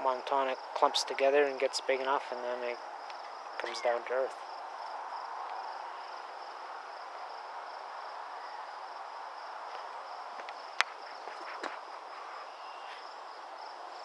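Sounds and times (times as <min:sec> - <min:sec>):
cricket-like insect trill: 0:00.0 - 0:14.0
soft outdoor background hiss: 0:00.0 - 0:14.0.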